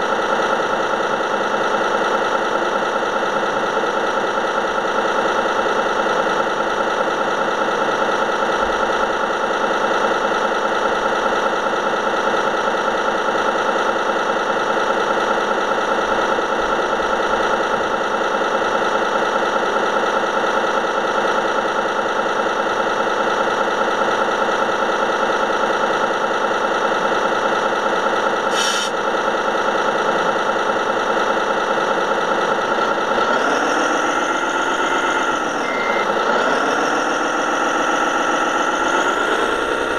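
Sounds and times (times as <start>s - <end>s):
model truck diesel idle sound: 0.0s - 39.9s.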